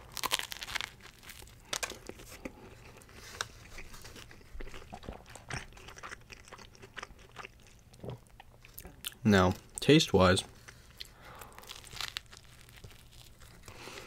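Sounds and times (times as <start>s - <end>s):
biting into crusty bread: 0.0s - 9.0s, 11.0s - 14.0s
crunchy chewing: 0.0s - 9.2s, 10.6s - 14.0s.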